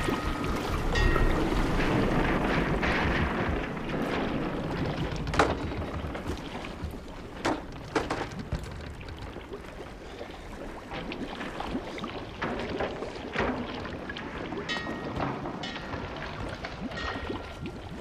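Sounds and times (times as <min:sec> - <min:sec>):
boat knocking: 0:00.0 - 0:09.8, 0:12.4 - 0:18.0
water sloshing around boat: 0:00.0 - 0:18.0.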